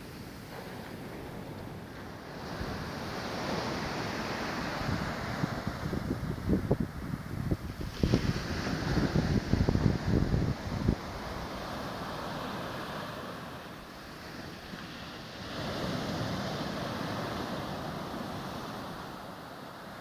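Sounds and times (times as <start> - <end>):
waves breaking on beach: 0.0 - 20.0
wind buffeting microphone: 0.0 - 20.0.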